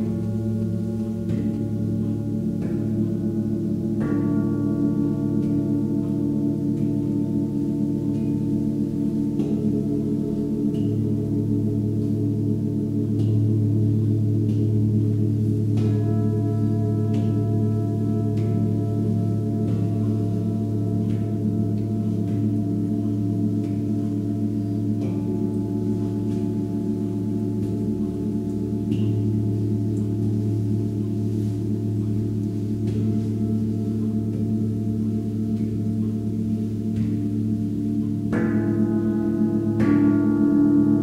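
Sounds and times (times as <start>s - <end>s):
singing bowl struck: 0.0s - 41.0s
singing bowls ringing: 0.0s - 41.0s.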